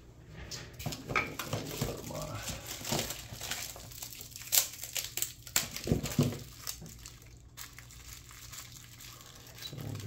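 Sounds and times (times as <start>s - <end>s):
plastic bag crinkling: 1.4s - 10.0s.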